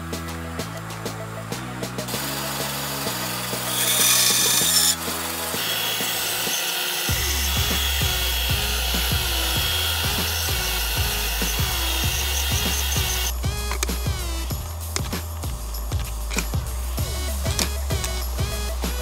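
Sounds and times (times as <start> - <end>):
background music with bass line: 0.0 - 6.3, 7.1 - 19.0
band saw cutting wood: 2.1 - 19.0
sander running: 2.1 - 19.0.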